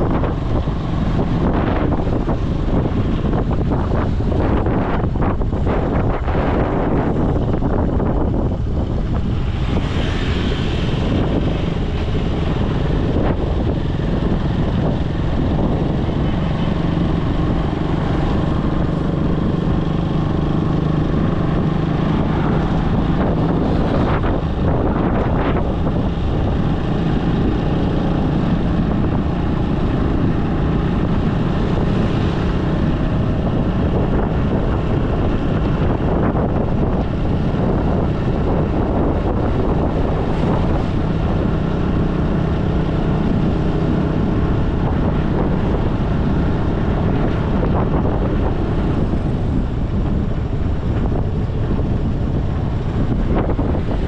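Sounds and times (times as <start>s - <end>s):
vehicle engine running: 0.0s - 54.0s
wind buffeting microphone: 0.0s - 54.0s.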